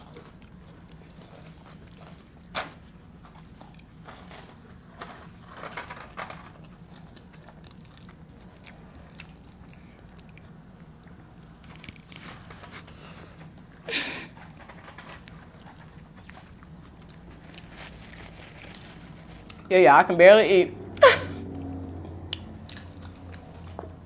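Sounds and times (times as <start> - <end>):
chewing: 0.0 - 13.7, 14.5 - 19.7, 20.9 - 24.0
tortilla chips crunching: 0.0 - 19.7, 20.9 - 24.0.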